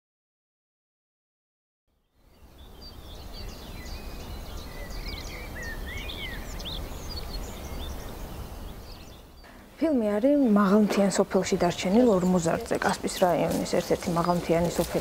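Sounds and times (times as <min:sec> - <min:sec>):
songbirds chirping and whistling: 0:02.1 - 0:15.0.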